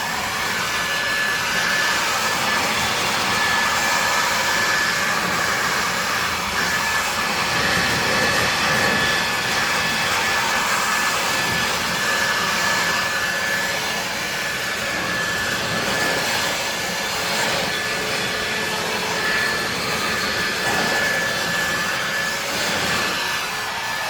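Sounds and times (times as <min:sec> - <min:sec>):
pressure washer spraying: 0:00.0 - 0:24.0.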